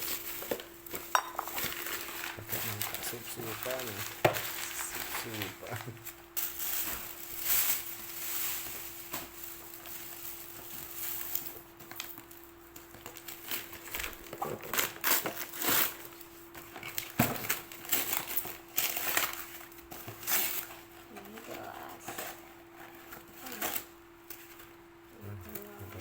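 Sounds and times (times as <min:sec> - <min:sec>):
gift packaging crinkling: 0:00.0 - 0:26.0.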